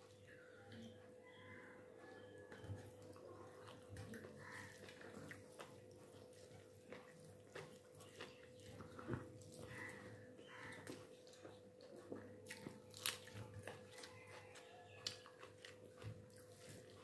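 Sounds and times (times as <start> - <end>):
fingers mixing rice on a plate: 1.5 - 17.0.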